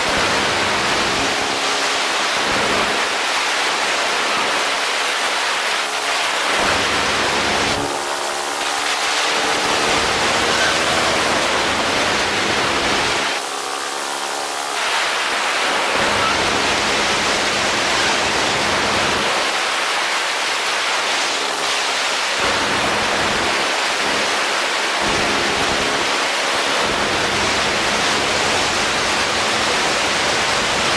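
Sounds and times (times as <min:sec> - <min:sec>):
paramotor engine and propeller: 0:00.0 - 0:30.9.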